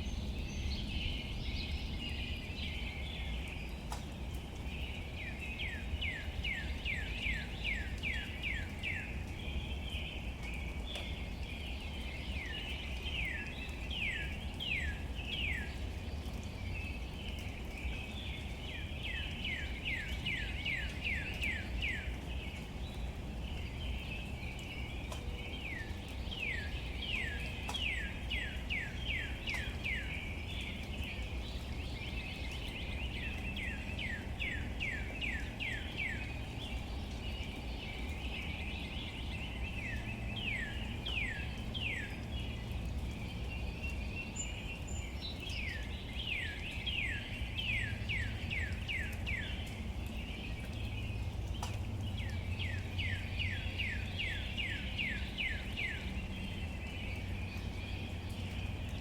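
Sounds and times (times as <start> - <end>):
rain patter on leaves: 0.0 - 59.0.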